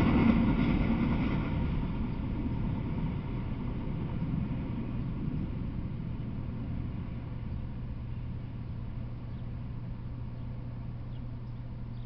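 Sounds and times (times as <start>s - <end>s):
background rumble: 0.0s - 12.0s
low hum: 0.0s - 12.0s.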